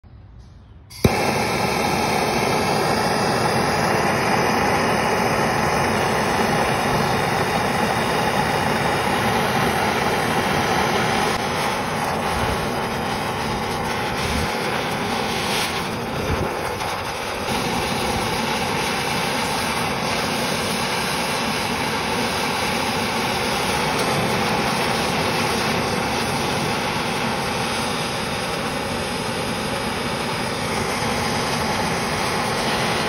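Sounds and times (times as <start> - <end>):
blowtorch flame rushing: 0.9 - 33.0
blowtorch igniting pop: 0.9 - 33.0.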